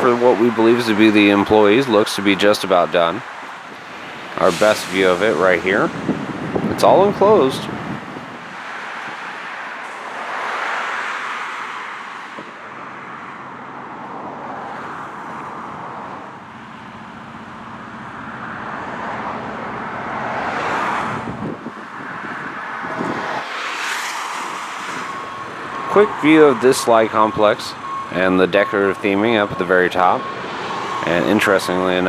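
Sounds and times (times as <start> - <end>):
cars passing: 0.0 - 32.0.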